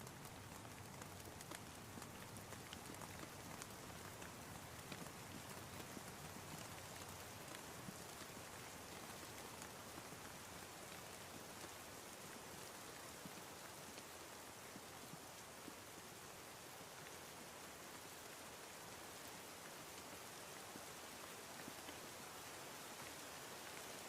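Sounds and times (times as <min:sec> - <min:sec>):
soft rain: 0:00.0 - 0:24.0.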